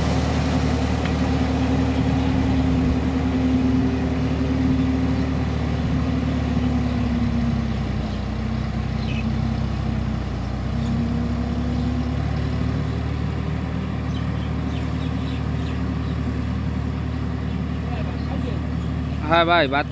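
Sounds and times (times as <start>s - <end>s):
rotary tiller in muddy soil: 0.0s - 19.9s
tractor engine running under load: 0.0s - 19.9s.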